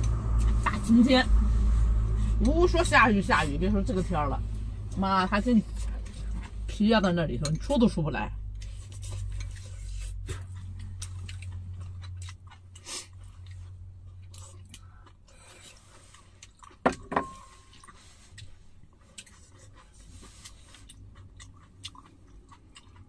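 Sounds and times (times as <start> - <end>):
low steady hum: 0.0 - 23.0
people chewing: 0.0 - 23.0.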